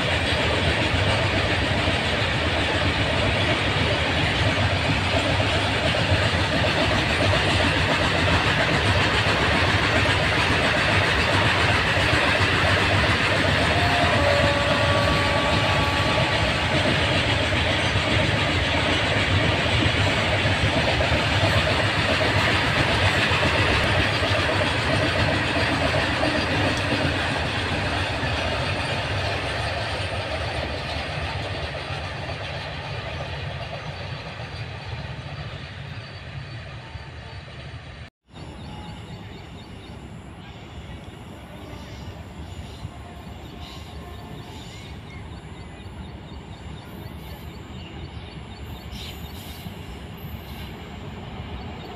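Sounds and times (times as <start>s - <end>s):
freight train rolling past: 0.0s - 51.9s.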